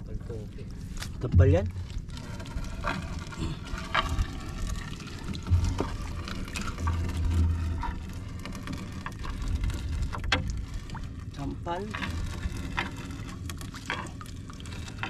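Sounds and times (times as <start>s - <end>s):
steady low rumble: 0.0s - 15.0s
wet fishing net rustling: 0.7s - 15.0s
clicks and knocks against hull: 0.9s - 15.0s.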